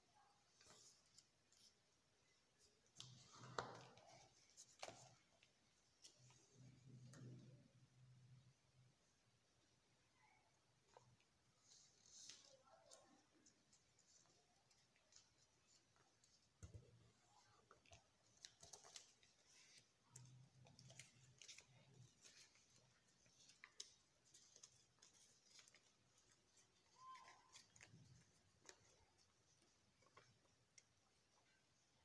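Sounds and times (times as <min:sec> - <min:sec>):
paper rustling and crinkling: 0:00.4 - 0:07.5, 0:10.8 - 0:31.8.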